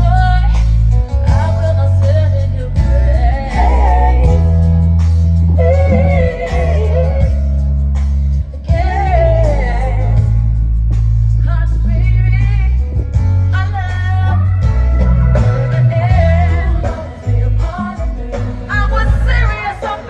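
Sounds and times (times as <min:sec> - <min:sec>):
woman singing: 0:00.0 - 0:04.7, 0:05.6 - 0:07.4, 0:08.6 - 0:10.2, 0:11.4 - 0:12.9, 0:13.5 - 0:20.0
heavy sustained bass: 0:00.0 - 0:19.5.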